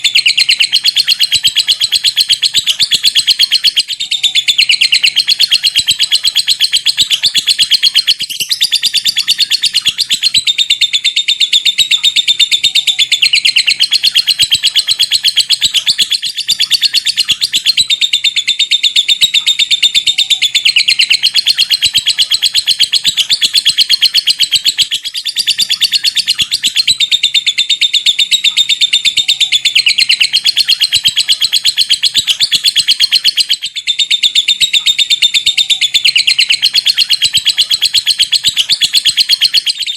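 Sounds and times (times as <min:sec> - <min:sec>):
lovebird chattering song: 0:00.0 - 0:39.9.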